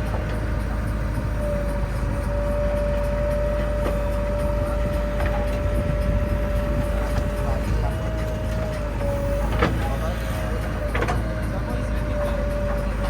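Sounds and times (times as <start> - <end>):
diesel machinery rumbling: 0.0 - 13.0.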